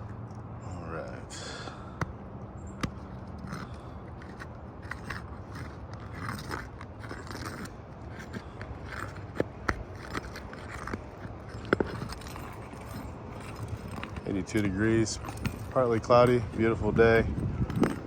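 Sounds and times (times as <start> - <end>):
tools scraping roof shingles: 1.4 - 18.0.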